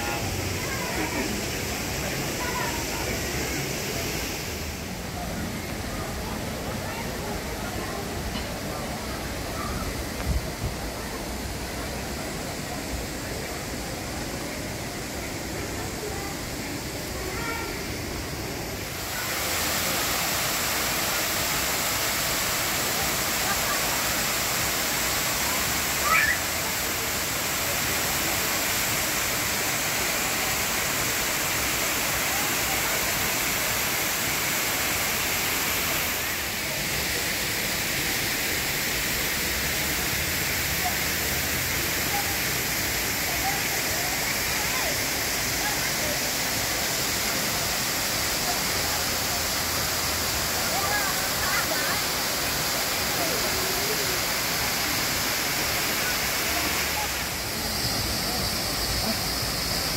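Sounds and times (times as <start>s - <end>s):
waterfall cascading over rocks: 0.0s - 59.9s.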